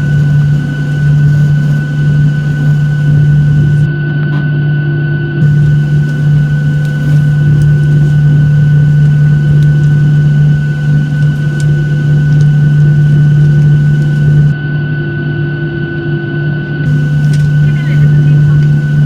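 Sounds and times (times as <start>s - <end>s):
aircraft cabin drone: 0.0s - 19.0s.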